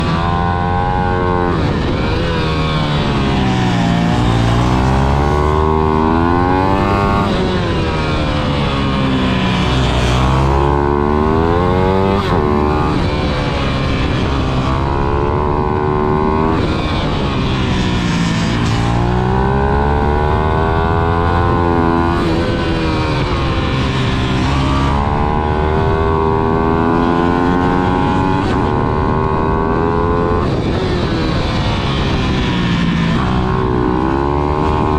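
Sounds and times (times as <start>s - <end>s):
pit bike engine revving: 0.0s - 34.9s.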